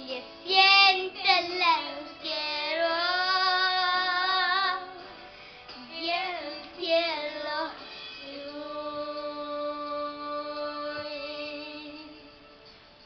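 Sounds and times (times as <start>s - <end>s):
girl singing a love ballad: 0.0s - 12.7s
backing music with sustained chords: 0.0s - 13.0s.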